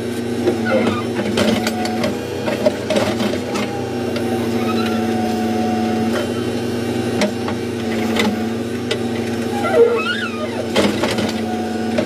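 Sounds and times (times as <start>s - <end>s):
diesel engine running: 0.0s - 12.0s
hydraulic arm whine: 0.4s - 12.0s.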